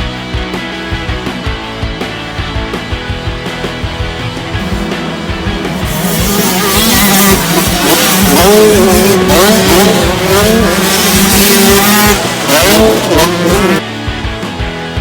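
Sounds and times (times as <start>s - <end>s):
racing engines revving: 0.7s - 14.9s.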